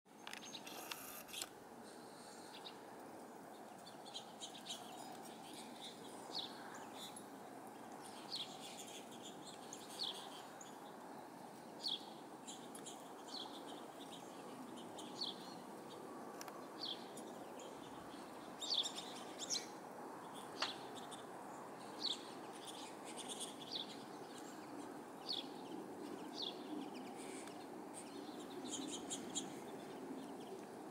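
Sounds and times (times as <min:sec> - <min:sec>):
songbirds chirping: 0:00.1 - 0:30.9.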